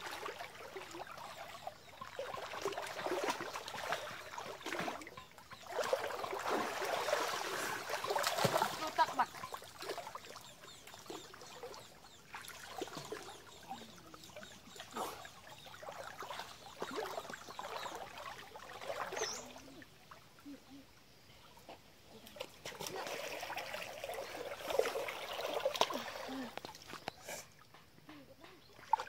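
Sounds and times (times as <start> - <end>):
wading splashes: 0.0 - 20.6, 22.2 - 27.0, 28.5 - 29.0
creek water trickling: 0.0 - 29.0.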